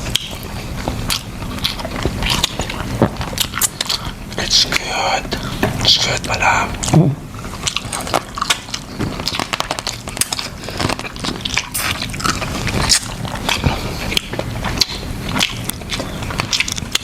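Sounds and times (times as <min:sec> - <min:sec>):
biting and chewing: 0:00.0 - 0:17.0.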